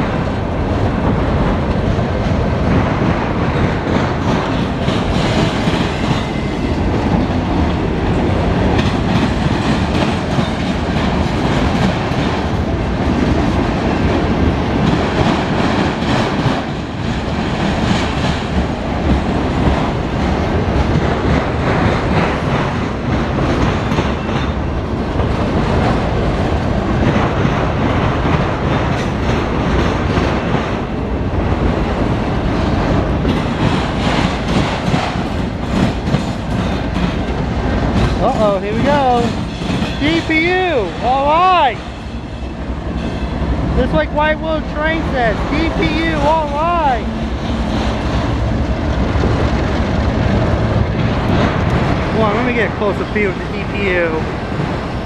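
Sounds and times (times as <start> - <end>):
freight train wheels clacking: 0.0 - 55.0.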